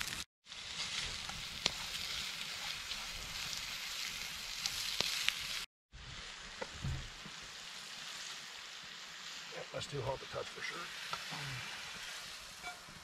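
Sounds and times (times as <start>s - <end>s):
sausage sizzling in a skillet: 0.0s - 13.0s.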